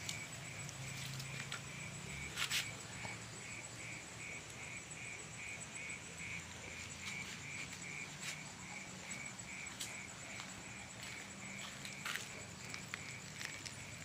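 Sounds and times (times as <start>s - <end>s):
frogs chirping: 0.0s - 14.0s
insects trilling: 0.0s - 14.0s.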